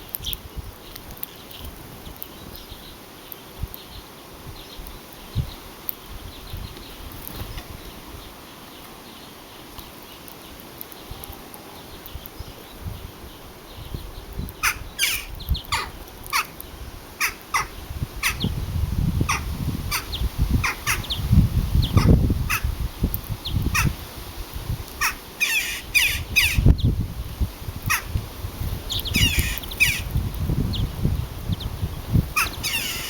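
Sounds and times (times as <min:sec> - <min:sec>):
birds calling: 0:00.0 - 0:24.0, 0:24.9 - 0:27.0, 0:27.8 - 0:28.2, 0:28.8 - 0:33.0.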